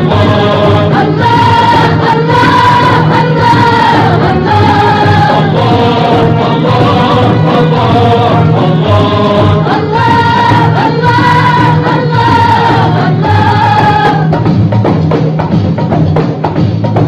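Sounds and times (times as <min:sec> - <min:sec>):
chorus of voices singing: 0:00.0 - 0:14.5.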